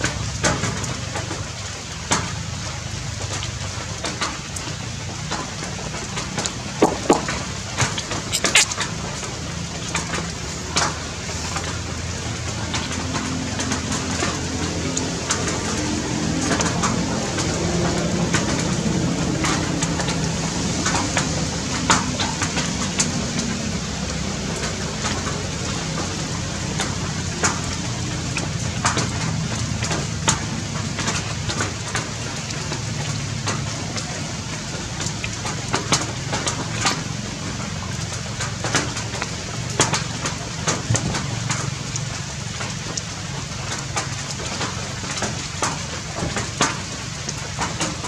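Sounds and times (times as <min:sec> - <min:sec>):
rain on leaves: 0:00.0 - 0:48.0
sharp drips: 0:00.0 - 0:48.0.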